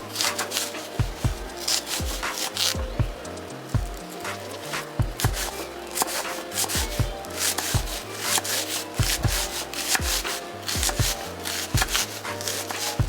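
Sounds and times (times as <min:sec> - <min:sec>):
background music with beat: 0:00.0 - 0:13.0.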